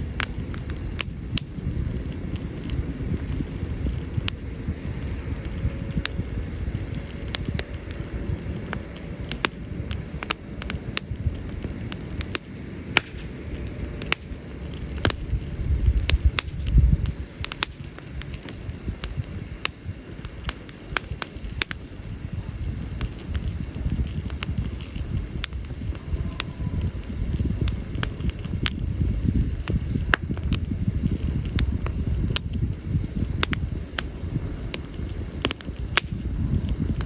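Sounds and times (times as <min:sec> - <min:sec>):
campfire crackling and popping: 0:00.0 - 0:37.0
fire low rumble: 0:00.0 - 0:37.0.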